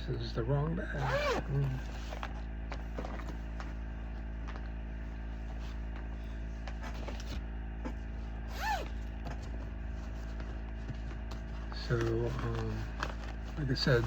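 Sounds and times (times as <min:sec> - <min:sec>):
steady low hum: 0:00.0 - 0:14.0
clicks and rustles of handling: 0:01.6 - 0:08.2, 0:08.8 - 0:14.0.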